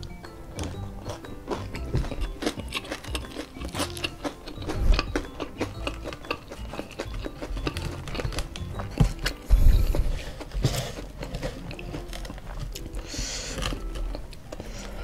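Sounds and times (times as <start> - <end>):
background music: 0.0 - 15.0
chewing crispy fried chicken: 0.0 - 15.0.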